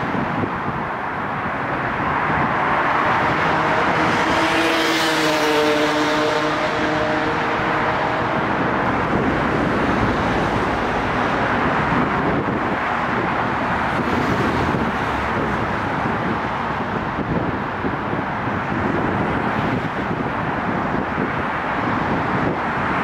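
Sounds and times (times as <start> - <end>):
city road traffic roar: 0.0 - 23.0.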